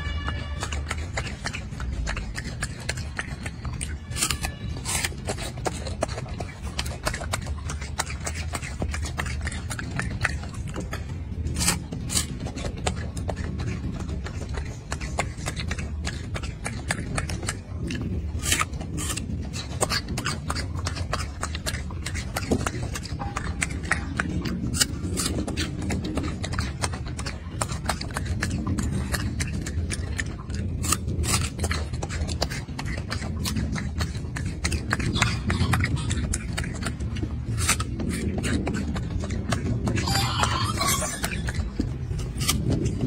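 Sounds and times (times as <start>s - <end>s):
low rumble: 0.0s - 43.0s
monkey chewing crisp fruit: 0.0s - 43.0s.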